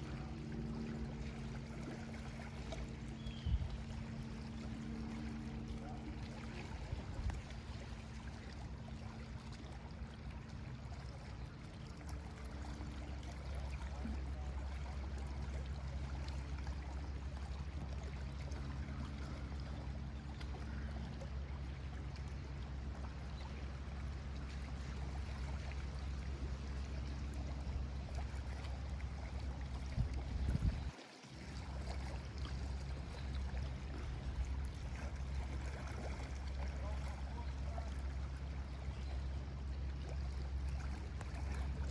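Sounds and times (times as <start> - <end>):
lake waves lapping against shore: 0.0 - 41.9.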